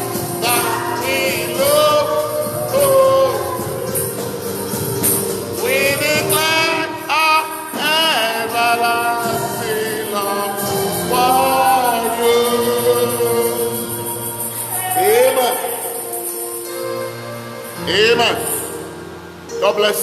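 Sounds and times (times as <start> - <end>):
tambourine jingling: 0.0 - 19.0
instrumental backing: 0.0 - 20.0
voices singing gospel song: 0.0 - 20.0.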